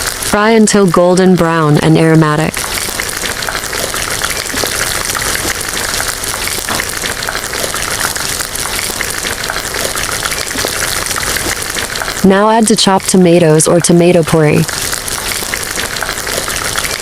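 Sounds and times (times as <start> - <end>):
onion and garlic sizzling in oil: 0.0 - 17.0.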